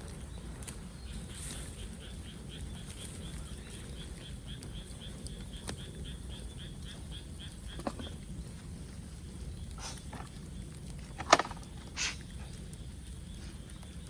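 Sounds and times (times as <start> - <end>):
bonfire rumbling and crackling: 0.0 - 14.0.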